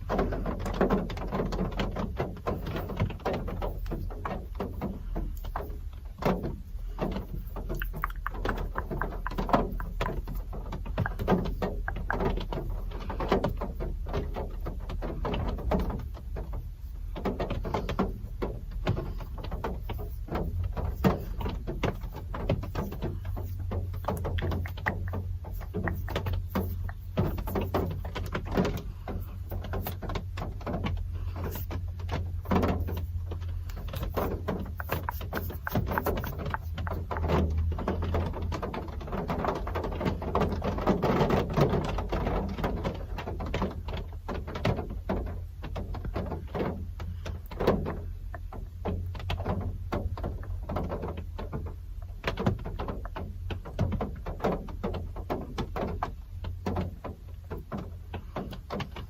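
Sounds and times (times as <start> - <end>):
rain drops on hard surfaces: 0.0 - 59.0.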